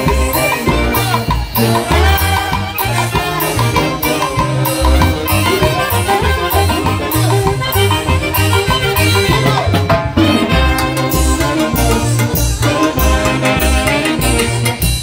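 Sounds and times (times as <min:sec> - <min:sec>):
drum kit beat: 0:00.0 - 0:15.0
saxophones and trumpets melody: 0:00.0 - 0:15.0.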